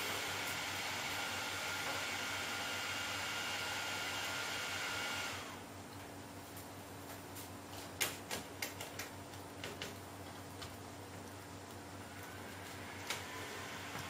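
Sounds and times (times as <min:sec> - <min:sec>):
laptop cooling fans whining: 0:00.0 - 0:14.0.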